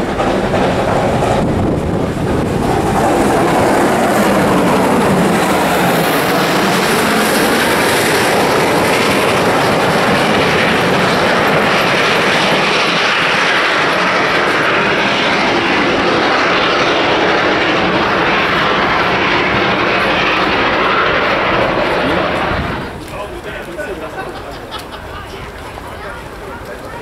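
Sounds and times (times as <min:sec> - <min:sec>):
steam train rushing roar: 0:00.0 - 0:27.0.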